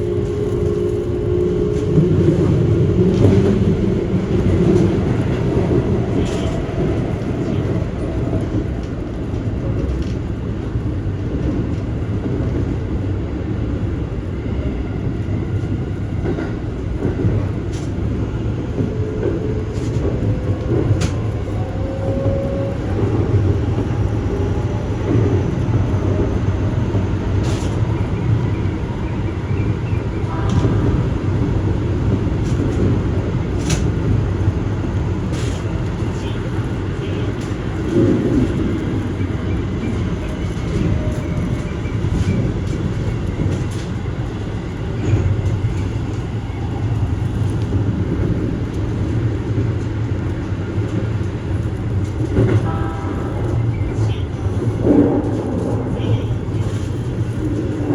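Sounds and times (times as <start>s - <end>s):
train rumbling on track: 0.0s - 57.9s.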